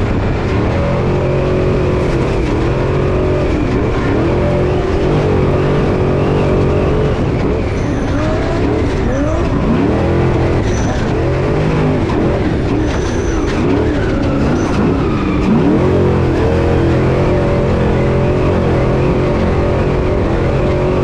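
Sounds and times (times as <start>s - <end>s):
constant rushing noise: 0.0s - 21.0s
race truck engine revving: 0.0s - 21.0s.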